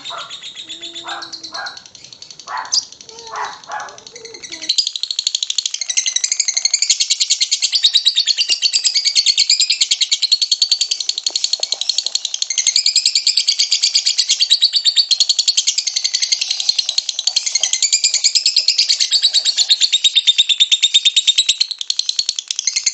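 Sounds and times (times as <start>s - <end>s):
lovebird rapid chattering song: 0.0s - 22.9s.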